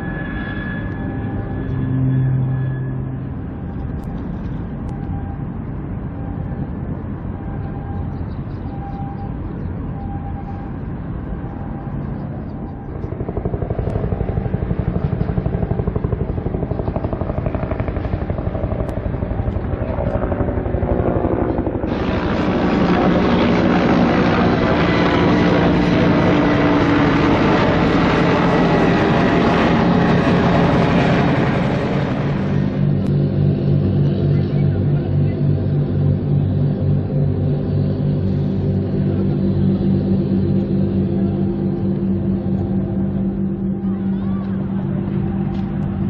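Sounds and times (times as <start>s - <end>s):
diesel engines throbbing: 0.0s - 46.0s.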